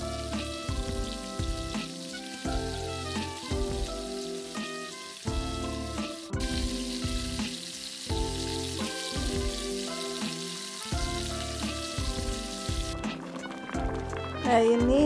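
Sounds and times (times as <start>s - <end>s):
food sizzling in oil: 0.0s - 14.8s
background music with bass line: 0.0s - 15.0s.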